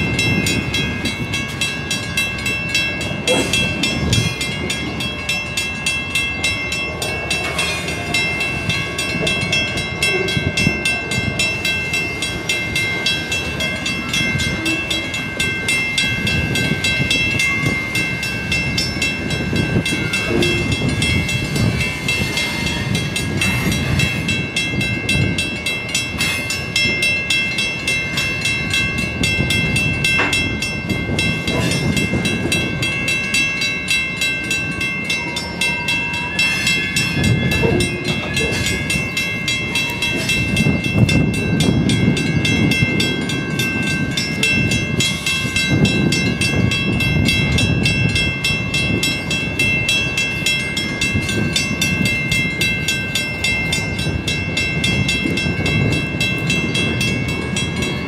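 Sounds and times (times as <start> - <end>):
crossing warning bell ringing: 0.0 - 58.0
train wheels clattering on rails: 0.0 - 58.0.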